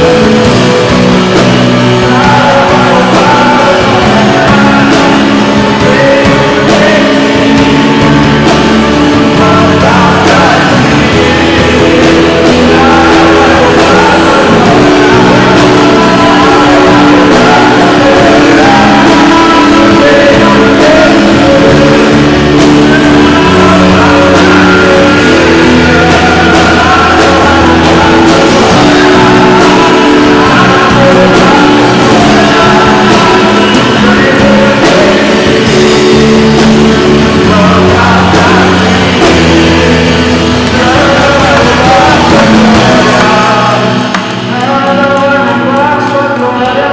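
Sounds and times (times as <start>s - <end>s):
rock band with singing: 0.0s - 46.9s.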